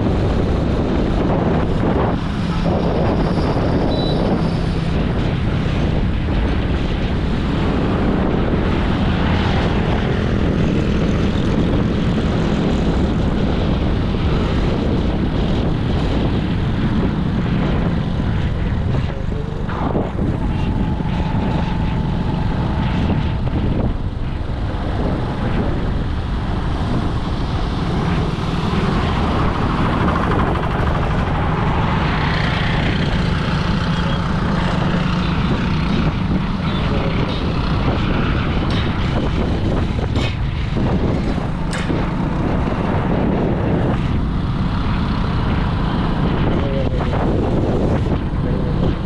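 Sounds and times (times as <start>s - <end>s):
vehicle engine and road rumble: 0.0s - 49.0s.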